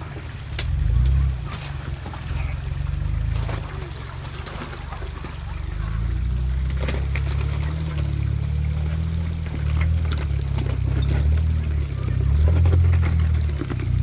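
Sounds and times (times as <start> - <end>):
engine rumbling low: 0.0 - 14.0
running water: 0.0 - 14.0.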